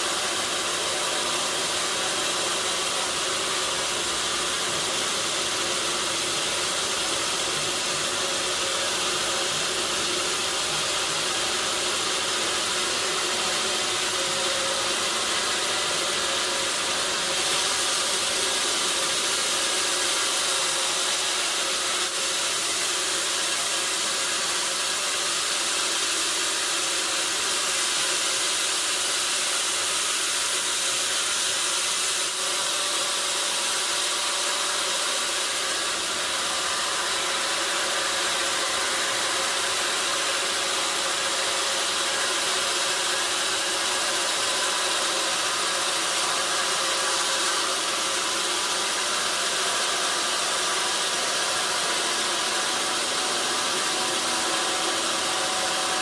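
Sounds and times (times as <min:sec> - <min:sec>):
sawmill machinery hiss: 0:00.0 - 0:56.0.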